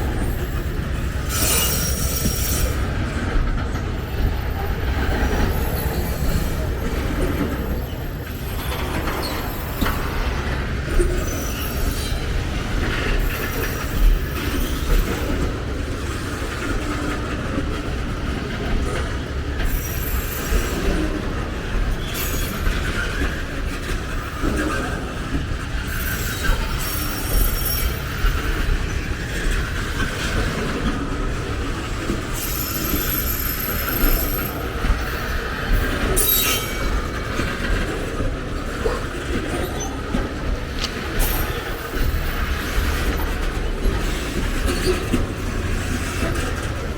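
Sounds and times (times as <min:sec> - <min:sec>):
train wheel squeals: 0:00.0 - 0:46.9
train wheels rumbling: 0:00.0 - 0:46.9.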